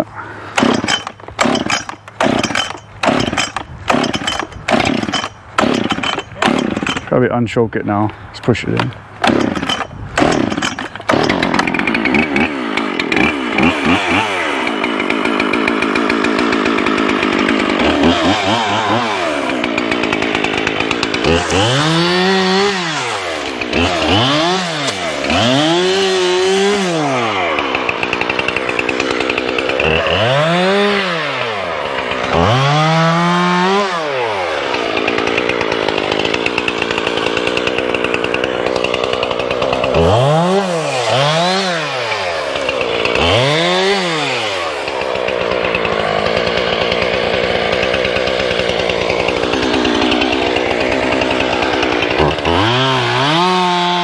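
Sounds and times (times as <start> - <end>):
chainsaw running at high speed: 0.0 - 7.1, 8.6 - 54.0.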